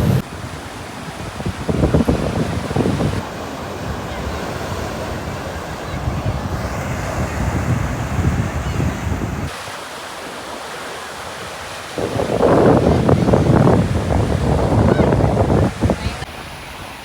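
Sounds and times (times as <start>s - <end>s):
wind buffeting microphone: 0.0s - 9.6s, 11.4s - 17.0s
ocean surf washing onto beach: 0.0s - 17.0s.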